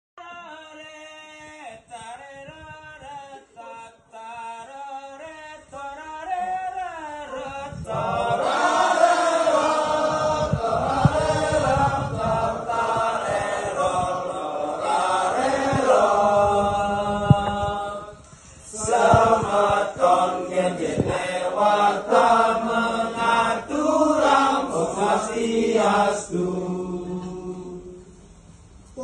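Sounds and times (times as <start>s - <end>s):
group chanting chorus: 3.0s - 28.1s.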